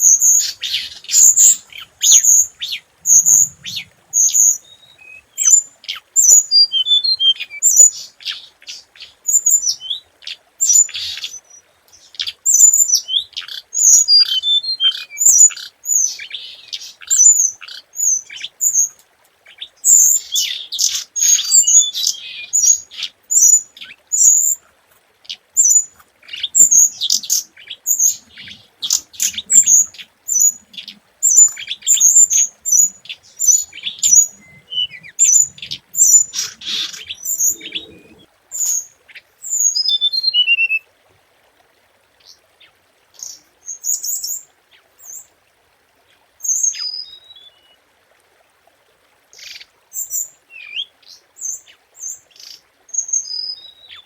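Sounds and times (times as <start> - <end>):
songbird chirping and twittering: 0.0 - 40.9, 42.1 - 45.3, 46.4 - 47.8, 49.4 - 54.0.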